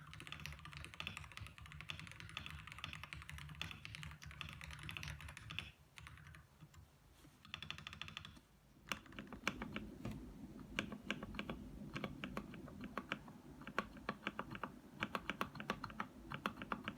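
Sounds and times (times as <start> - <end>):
keyboard typing: 0.0 - 6.8, 7.4 - 16.9.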